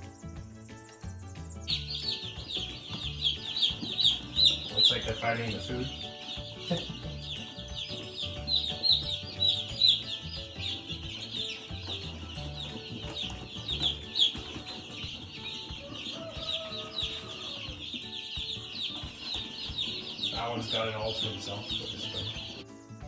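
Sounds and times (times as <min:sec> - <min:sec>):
chicks peeping: 0:00.0 - 0:22.8.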